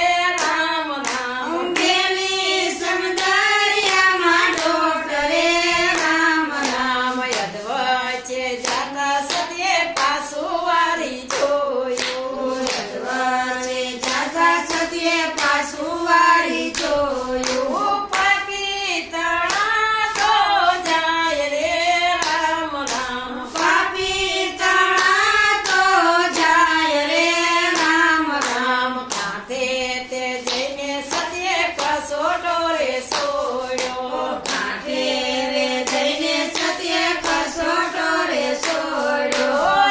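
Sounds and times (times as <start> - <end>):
hand claps: 0.0 - 39.9
women singing devotional song: 0.0 - 39.9.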